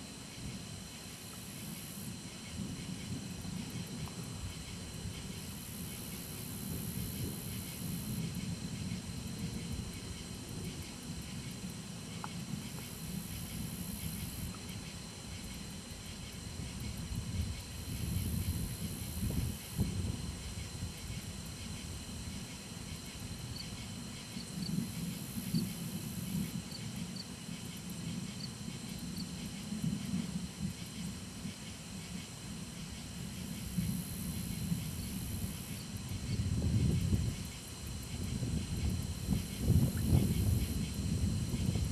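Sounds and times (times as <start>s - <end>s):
steady high hiss: 0.0s - 41.9s.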